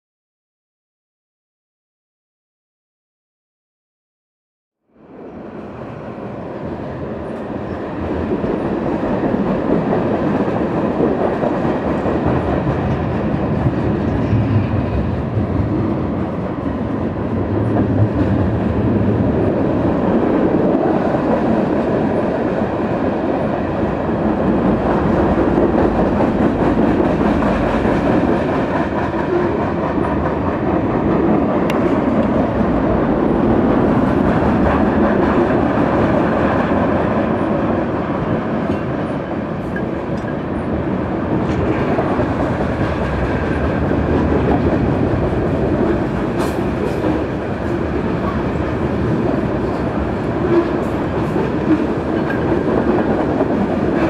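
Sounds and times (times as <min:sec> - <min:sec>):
freight train wheels rumbling on rails: 0:05.2 - 0:54.0.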